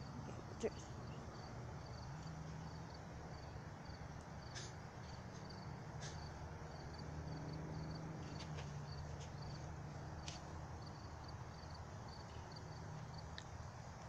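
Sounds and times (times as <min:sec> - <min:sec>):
cricket chirping: 0:00.0 - 0:13.4.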